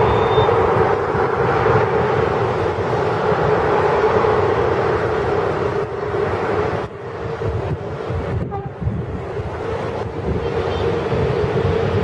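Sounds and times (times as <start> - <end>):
constant engine hum: 0.0 - 12.0
jet engines rushing: 0.0 - 12.0.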